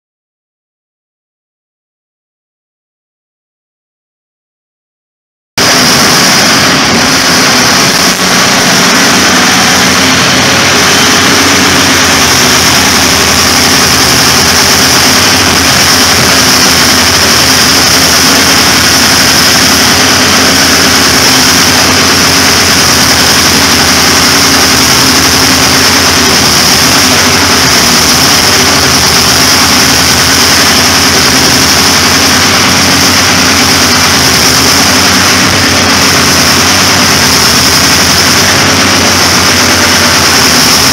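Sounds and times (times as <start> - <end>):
excavator diesel engines running: 5.6 - 40.9.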